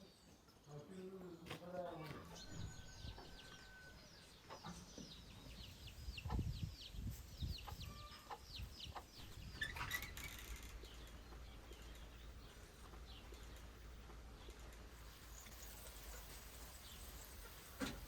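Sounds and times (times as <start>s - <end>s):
chickens peeping and clucking: 2.2s - 18.0s.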